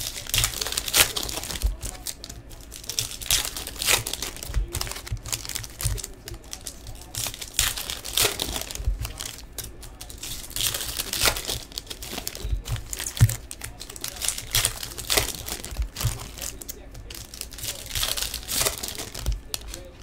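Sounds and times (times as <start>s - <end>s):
card pack wrappers crinkling and tearing: 0.0s - 20.0s
cards rustling: 0.0s - 20.0s.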